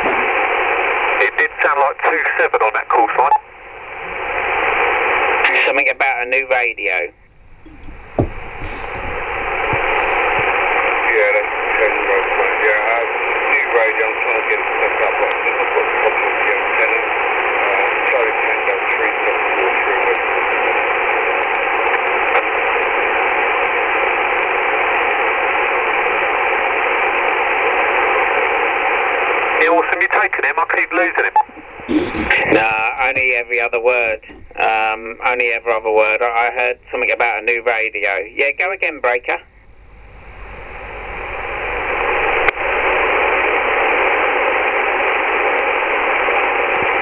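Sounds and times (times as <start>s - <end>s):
radio static hiss: 0.0s - 47.0s.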